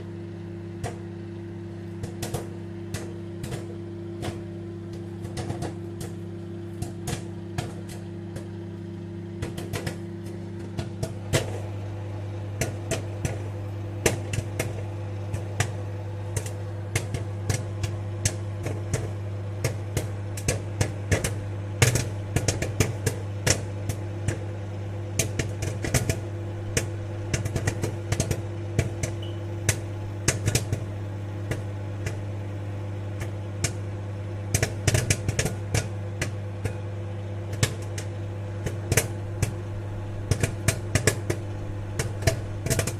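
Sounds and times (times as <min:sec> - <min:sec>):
microwave oven hum: 0:00.0 - 0:42.9
popcorn popping: 0:00.1 - 0:42.9.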